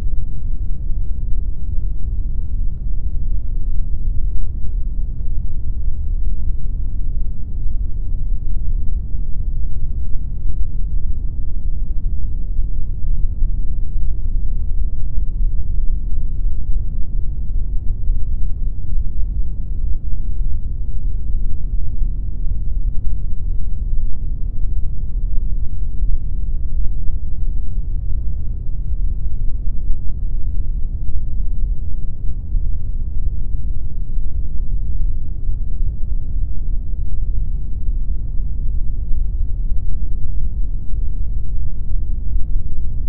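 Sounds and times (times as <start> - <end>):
deep pink noise: 0.0 - 43.0.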